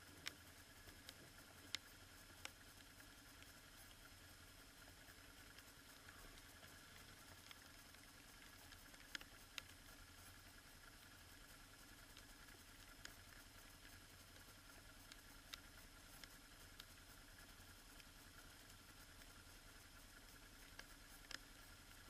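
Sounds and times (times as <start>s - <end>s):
faint steady hum: 0.0s - 22.0s
raindrops ticking on camera: 0.1s - 22.0s.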